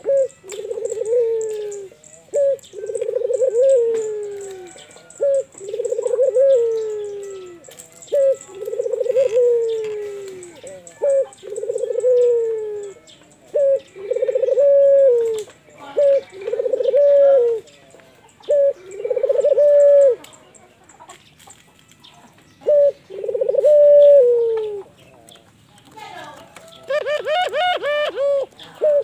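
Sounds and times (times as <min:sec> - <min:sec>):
dove cooing: 0:00.0 - 0:25.4, 0:26.6 - 0:29.0.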